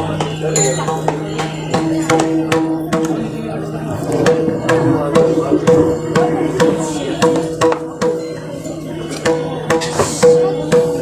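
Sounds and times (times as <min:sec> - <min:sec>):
held instrumental notes: 0:00.0 - 0:09.8
drum and percussion strokes: 0:00.2 - 0:11.0.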